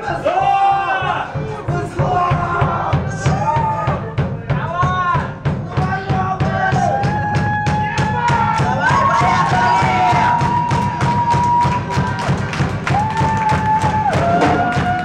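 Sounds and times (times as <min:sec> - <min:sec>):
drums keeping an even beat: 0:00.0 - 0:15.0.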